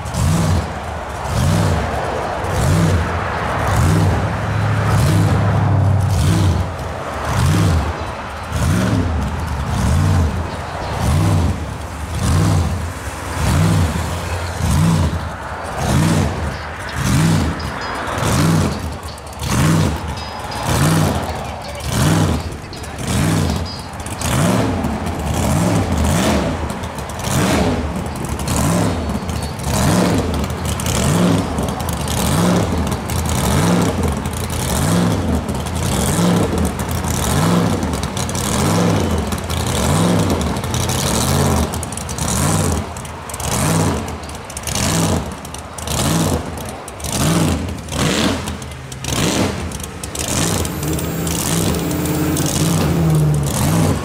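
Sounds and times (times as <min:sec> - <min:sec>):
car engines pulling away: 0:00.0 - 0:54.0.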